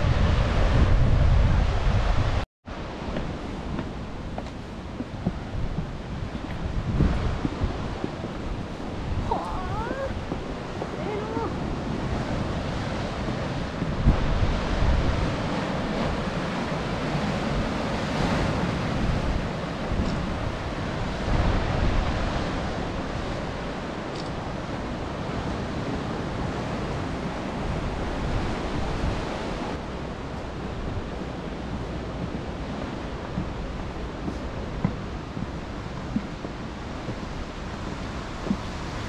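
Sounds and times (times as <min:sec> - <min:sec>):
sea surf washing: 0:00.0 - 0:39.0
wind buffeting microphone: 0:00.0 - 0:39.0.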